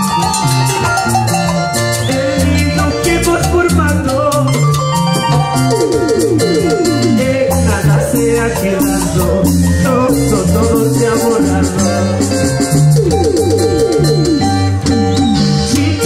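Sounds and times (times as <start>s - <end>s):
folk band music: 0.0s - 16.0s.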